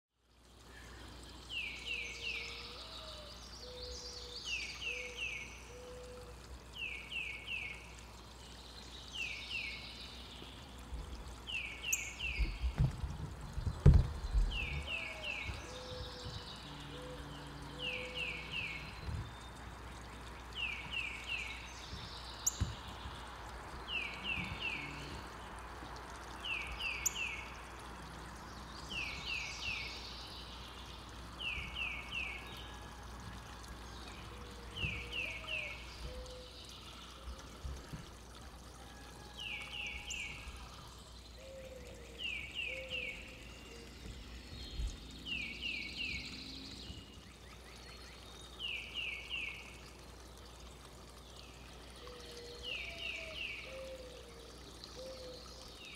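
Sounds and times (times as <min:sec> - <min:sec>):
steady background hiss: 0:00.4 - 0:55.9.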